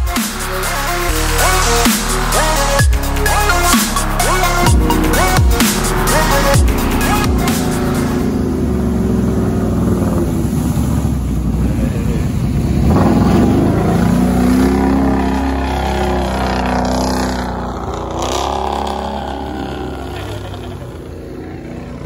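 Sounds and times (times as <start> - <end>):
atv engine under throttle: 0.1 - 22.0.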